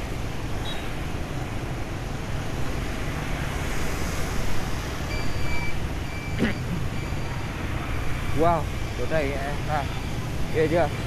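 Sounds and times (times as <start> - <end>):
rumble of engines and tyres: 0.0 - 11.0.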